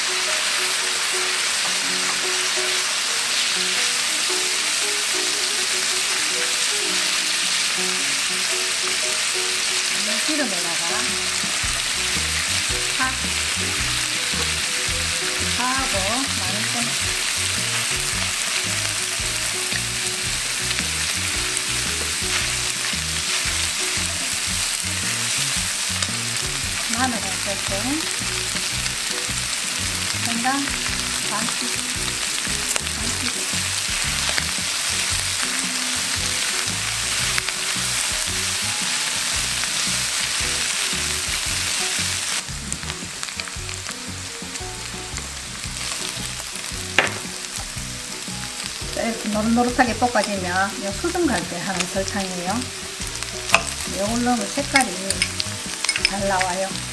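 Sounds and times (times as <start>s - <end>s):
chopsticks stirring in a pan: 0.0s - 56.9s
meat sizzling in a frying pan: 0.0s - 56.9s.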